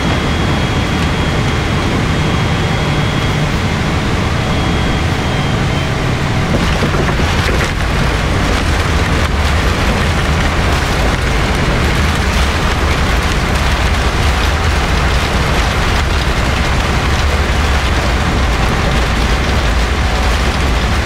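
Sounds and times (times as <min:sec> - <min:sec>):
aircraft cabin roar: 0:00.0 - 0:21.0
aircraft rattling on runway: 0:00.0 - 0:21.0.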